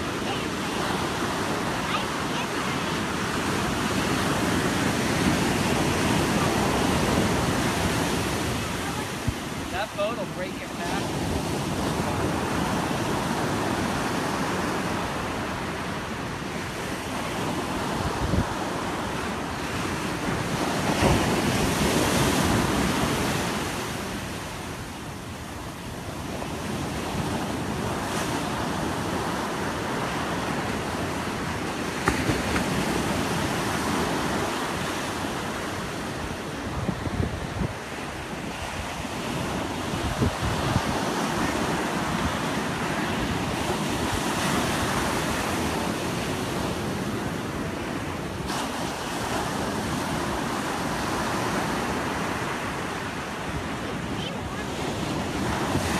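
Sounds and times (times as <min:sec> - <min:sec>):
ocean surf breaking: 0:00.0 - 0:55.9
wind rumbling on microphone: 0:02.6 - 0:55.9.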